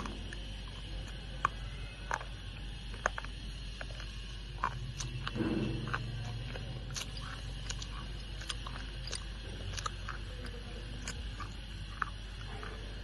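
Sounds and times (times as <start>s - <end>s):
crunchy chewing: 0.0s - 13.0s
low hum: 0.0s - 13.0s.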